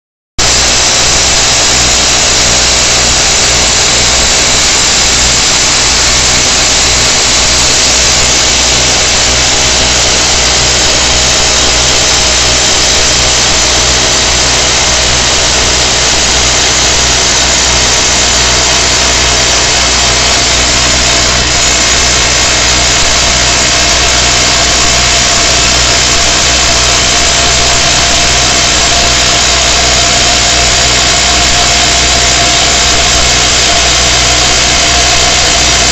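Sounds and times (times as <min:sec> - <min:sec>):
excavator engine running: 0:00.4 - 0:35.9
rock drill hammering: 0:00.4 - 0:35.9.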